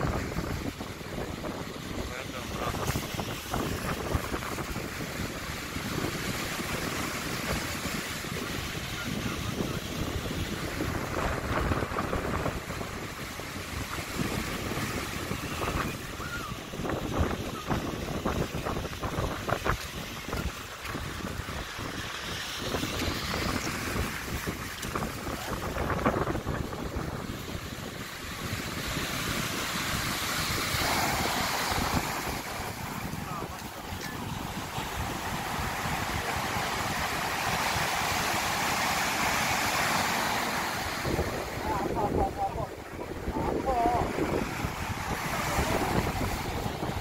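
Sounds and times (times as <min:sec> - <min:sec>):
surf washing onto pebbly shore: 0:00.0 - 0:47.0
wind buffeting microphone: 0:00.0 - 0:47.0.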